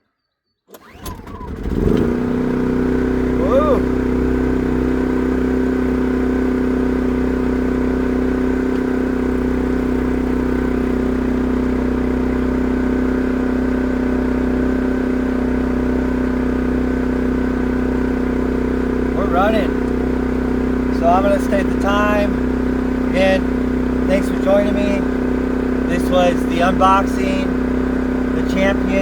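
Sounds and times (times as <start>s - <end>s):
generator humming: 0.7s - 29.0s.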